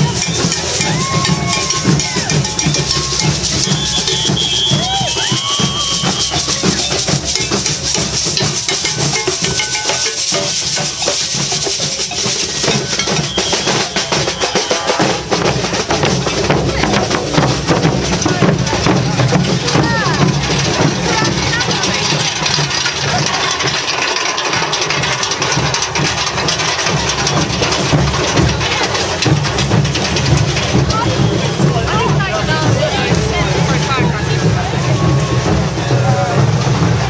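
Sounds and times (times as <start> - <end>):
procession drums beating: 0.0 - 37.0
voices: 0.0 - 37.0.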